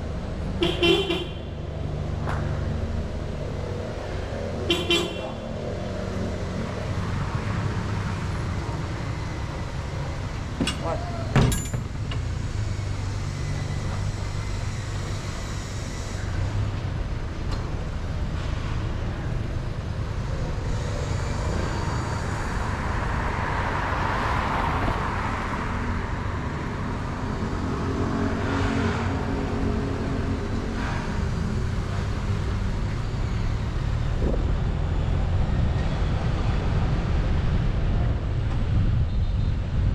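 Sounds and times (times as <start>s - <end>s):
engine rumble of traffic: 0.0s - 39.9s.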